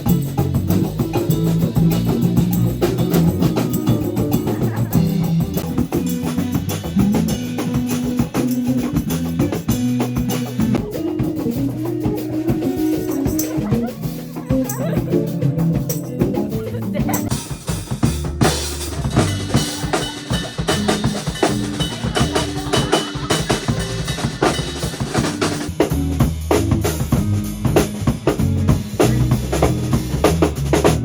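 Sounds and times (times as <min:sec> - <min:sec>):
bass line: 0:00.0 - 0:31.0
drum kit beat: 0:00.0 - 0:31.0.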